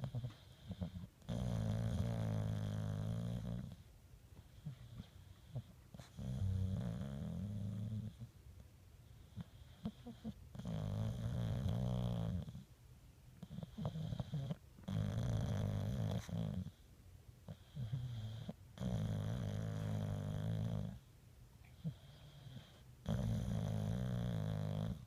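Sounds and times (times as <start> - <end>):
quiet breathing: 0.0 - 10.9, 13.4 - 25.0.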